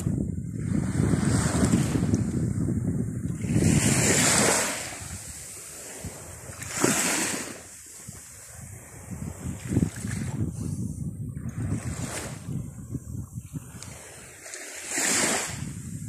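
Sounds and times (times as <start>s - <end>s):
wind buffeting microphone: 0.0s - 16.0s
small waves washing onto shore: 0.6s - 2.6s, 3.2s - 16.0s.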